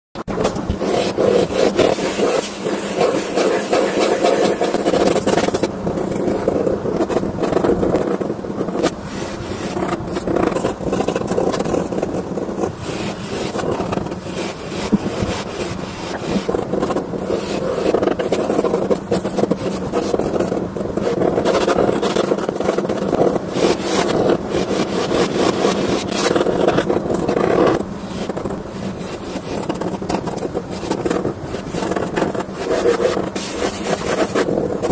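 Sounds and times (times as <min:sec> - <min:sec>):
pen scratching on paper: 0:00.3 - 0:34.9.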